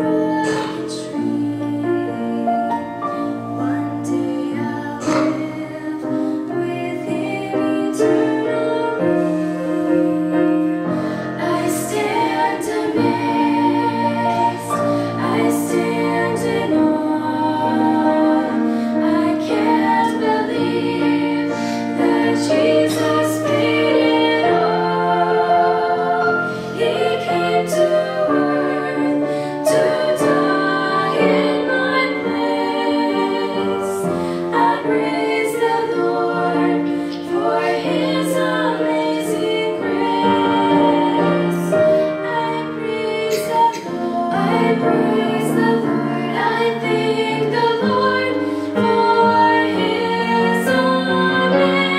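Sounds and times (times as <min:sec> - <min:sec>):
girls singing in harmony: 0:00.0 - 0:51.9.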